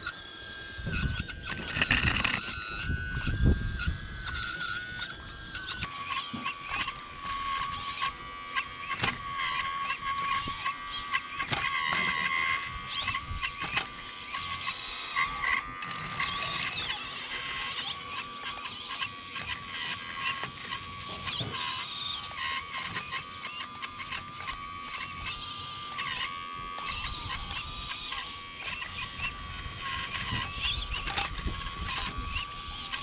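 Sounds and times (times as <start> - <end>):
electric hydraulic pump whine: 0.0 - 33.0.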